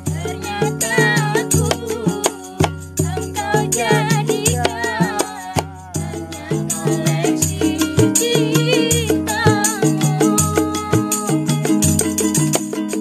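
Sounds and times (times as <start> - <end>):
woman singing: 0.0 - 11.8
hand drum beat: 0.0 - 13.0
shaker: 0.0 - 13.0
ukulele strumming: 0.0 - 13.0.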